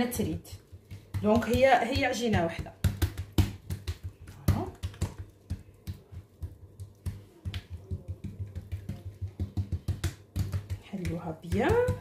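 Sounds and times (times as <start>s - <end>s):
palms slapping dough on countertop: 0.0s - 12.0s.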